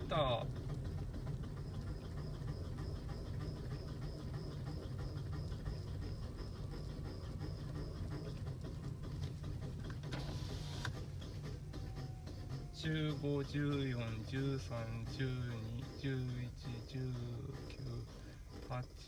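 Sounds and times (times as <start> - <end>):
fast rattling noise: 0.0 - 19.0.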